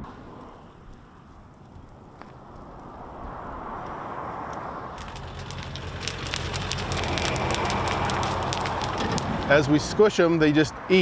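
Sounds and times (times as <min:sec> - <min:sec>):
low truck engine hum: 0:00.0 - 0:10.2
tyres crushing insects crackling: 0:00.3 - 0:10.3.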